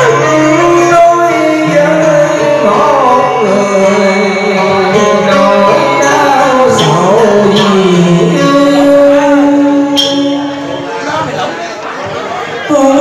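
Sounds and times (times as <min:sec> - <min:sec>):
steady musical accompaniment: 0:00.0 - 0:13.0.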